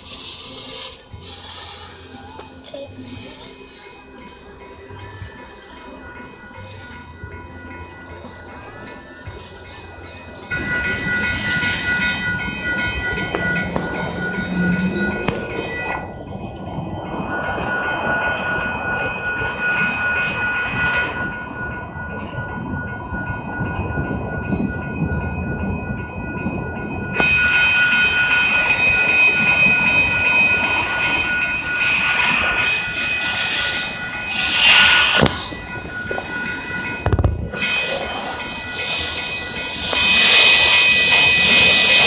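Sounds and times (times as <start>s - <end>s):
crossing bell ringing: 0.0s - 42.0s
train wheels rumbling and clattering: 0.0s - 42.0s.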